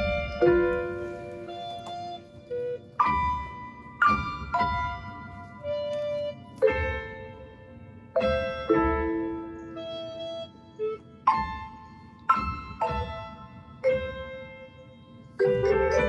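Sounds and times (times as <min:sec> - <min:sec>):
slow piano tune: 0:00.0 - 0:16.0.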